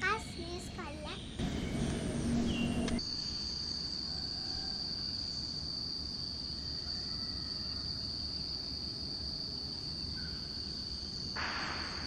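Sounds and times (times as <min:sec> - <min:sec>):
crickets chirping drone: 0:00.0 - 0:12.0.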